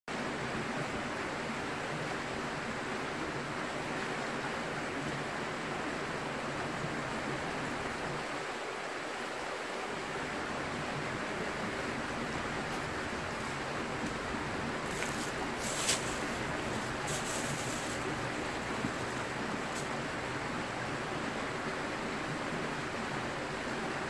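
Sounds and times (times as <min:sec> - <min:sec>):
river water rushing: 0:00.1 - 0:24.0.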